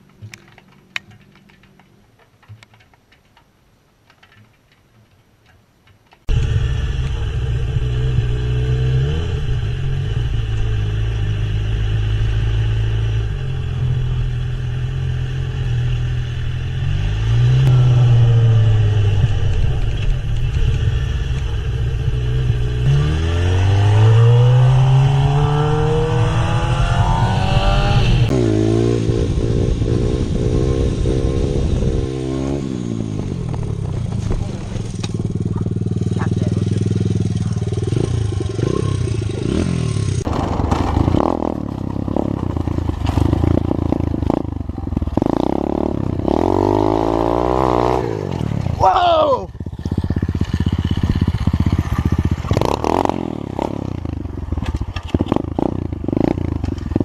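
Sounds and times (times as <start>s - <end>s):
motorcycle engine running hard: 6.3s - 57.0s.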